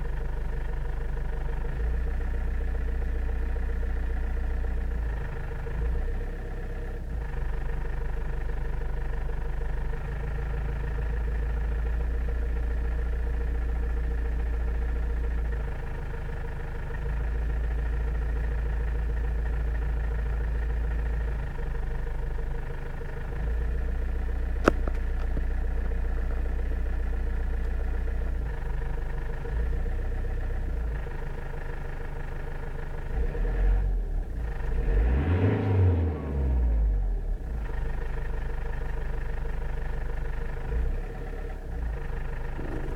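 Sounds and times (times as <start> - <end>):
car engine low drone: 0.0 - 42.9.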